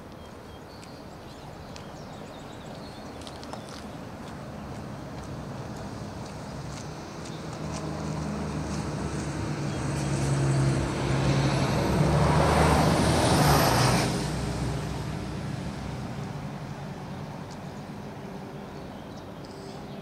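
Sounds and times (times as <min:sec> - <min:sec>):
road vehicle passing: 0:03.2 - 0:20.0.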